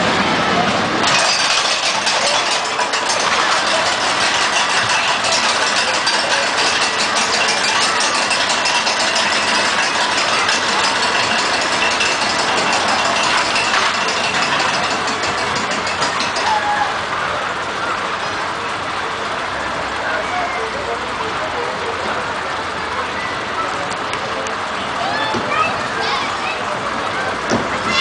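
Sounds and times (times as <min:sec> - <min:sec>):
mechanical running noise: 0:00.0 - 0:25.0
roller coaster cars clattering: 0:00.0 - 0:28.0.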